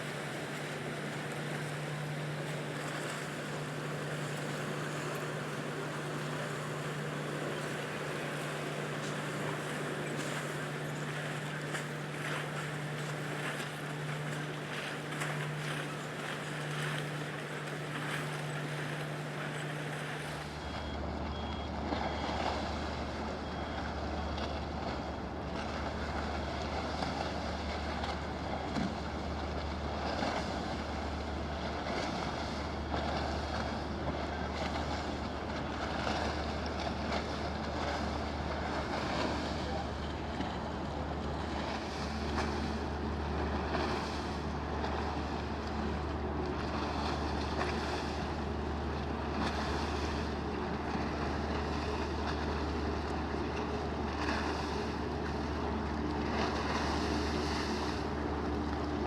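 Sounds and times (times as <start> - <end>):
ship engines humming: 0.0 - 59.0.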